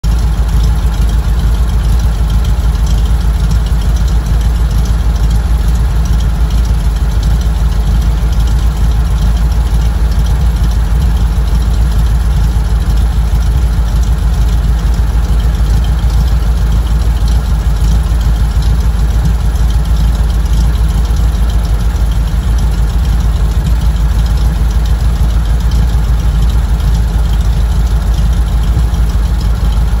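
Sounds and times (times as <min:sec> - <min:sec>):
engines idling: 0:00.0 - 0:30.0.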